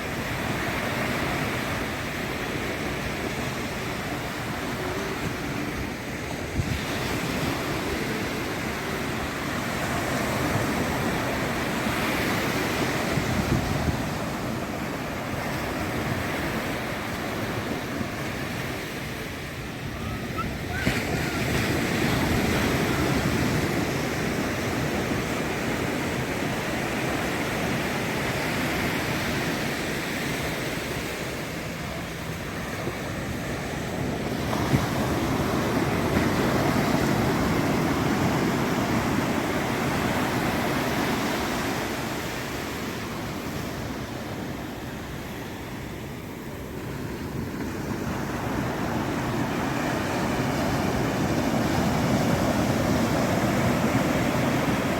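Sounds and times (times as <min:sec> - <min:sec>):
ocean surf on beach: 0:00.0 - 0:54.9.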